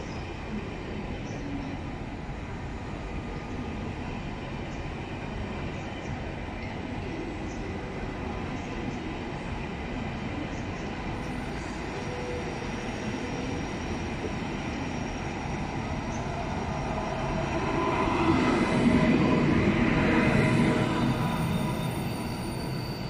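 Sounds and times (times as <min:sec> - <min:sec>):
high-speed train rolling past: 0:00.0 - 0:23.0.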